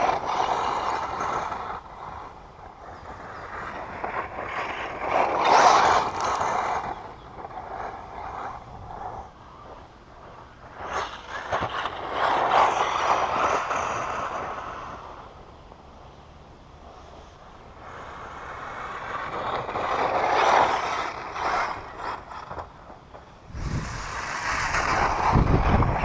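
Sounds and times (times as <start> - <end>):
toy car on dirt track: 0.0 - 26.0.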